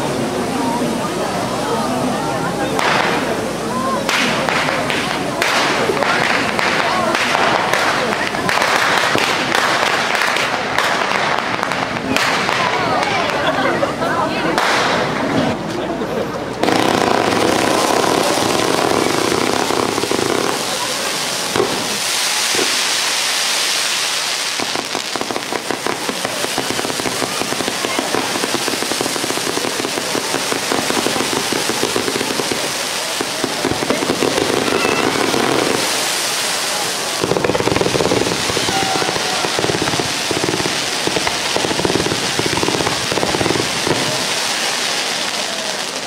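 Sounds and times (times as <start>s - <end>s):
fireworks hissing and crackling: 0.0s - 46.0s.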